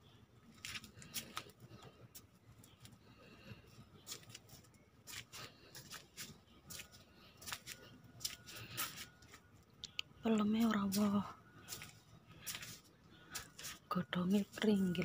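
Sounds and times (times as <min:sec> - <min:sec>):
faint clicks and rustles: 0:00.4 - 0:15.0.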